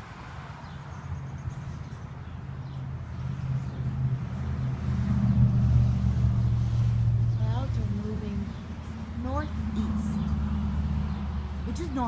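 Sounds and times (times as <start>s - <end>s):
passing vehicle engine rumble: 0.0s - 12.0s.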